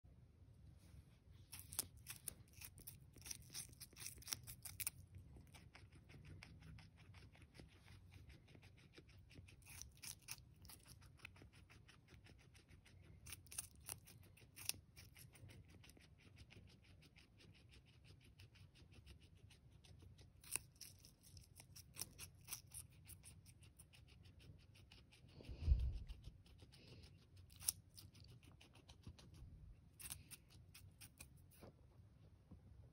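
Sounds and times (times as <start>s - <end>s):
guinea pig crunching cucumber: 1.2s - 32.1s.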